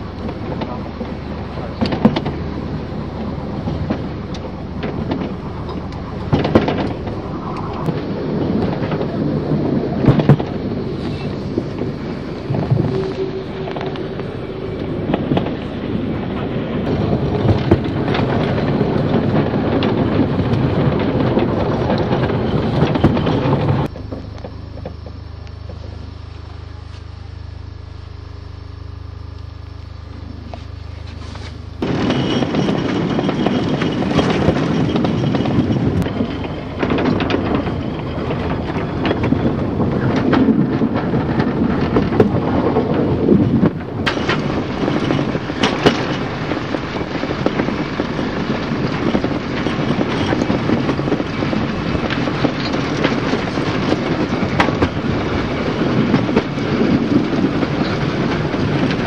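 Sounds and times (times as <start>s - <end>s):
train wheels clattering on rails: 0.0s - 25.9s, 30.5s - 59.0s
low hum: 0.0s - 59.0s
rushing wind: 0.0s - 59.0s.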